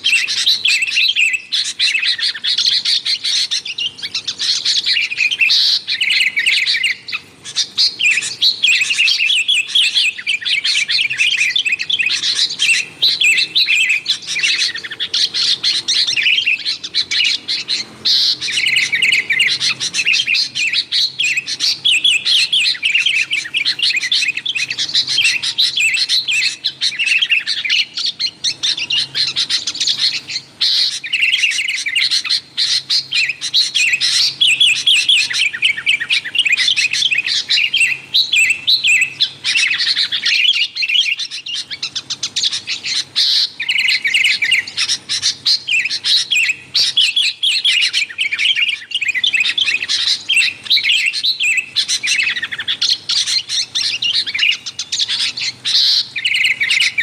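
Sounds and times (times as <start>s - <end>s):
bulbuls chirping: 0.0s - 57.0s.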